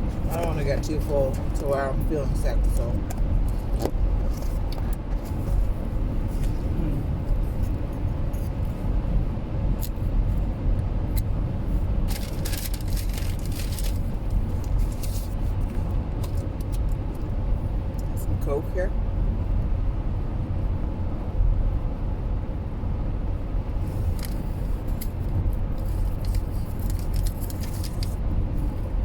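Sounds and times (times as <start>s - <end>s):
car cabin road and engine noise: 0.0s - 29.0s.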